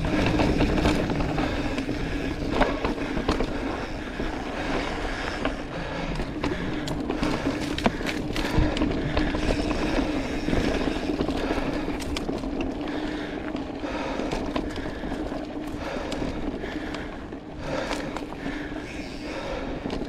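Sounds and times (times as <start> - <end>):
bike rattling and clicking: 0.0 - 20.0
bike tyres on dirt: 0.0 - 20.0.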